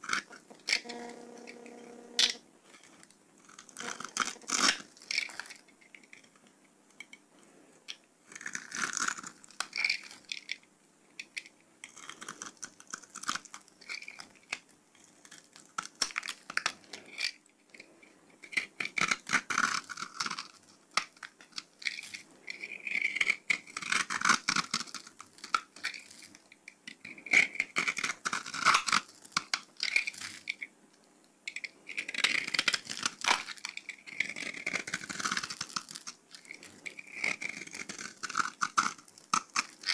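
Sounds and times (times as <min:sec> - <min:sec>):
knife shaving dry soap: 0:00.0 - 0:06.4, 0:08.3 - 0:10.6, 0:11.2 - 0:30.7, 0:31.5 - 0:39.9.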